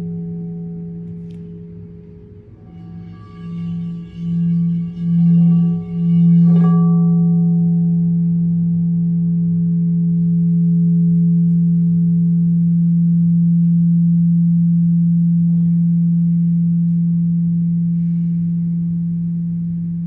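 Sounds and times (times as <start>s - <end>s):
low ringing tone: 0.0s - 20.0s.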